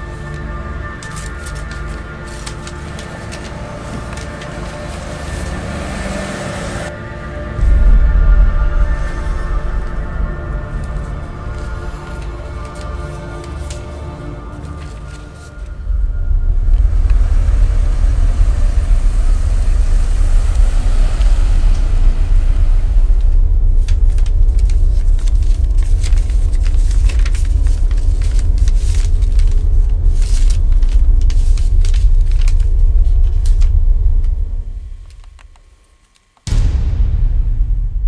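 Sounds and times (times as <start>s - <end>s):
deep bass rumble: 0.9s - 13.8s, 14.9s - 35.4s, 36.5s - 38.0s.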